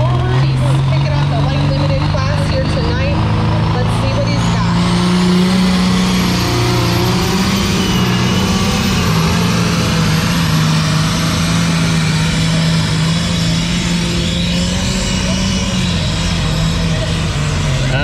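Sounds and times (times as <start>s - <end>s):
loud engine running: 0.0s - 18.0s.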